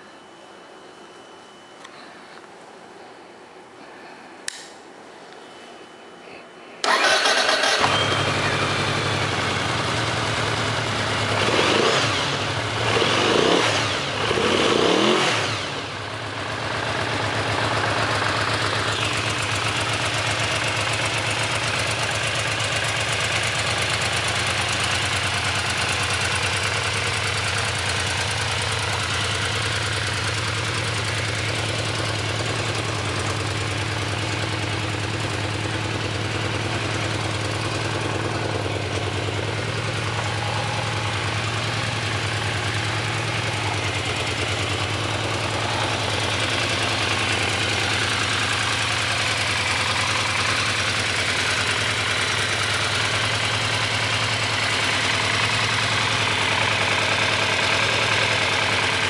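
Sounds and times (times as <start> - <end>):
motorcycle engine revving and idling: 6.8 - 59.0.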